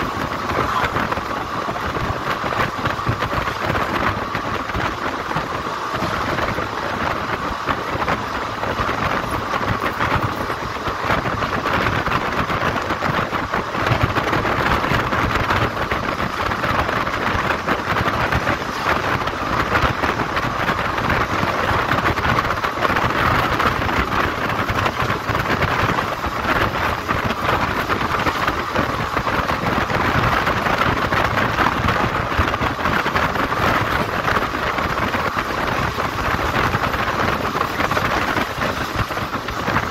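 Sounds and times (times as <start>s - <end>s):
train wheels on rails: 0.0s - 39.9s
wind rushing: 0.0s - 39.9s.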